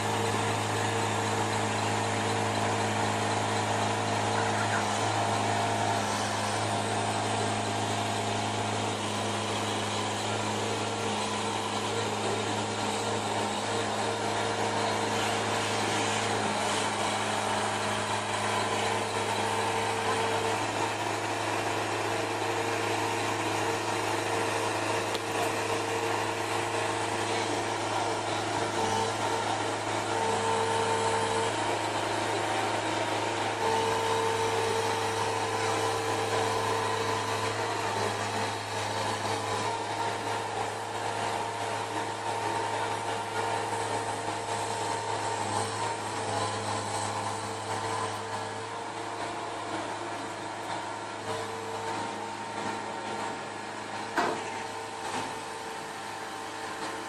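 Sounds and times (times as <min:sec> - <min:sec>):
engine humming: 0:00.0 - 0:57.0.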